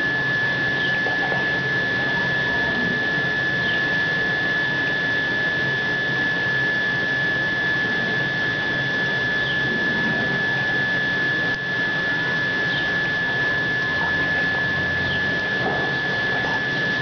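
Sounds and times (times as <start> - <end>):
high-pitched whine: 0.0 - 17.0
mechanical hum: 0.0 - 17.0.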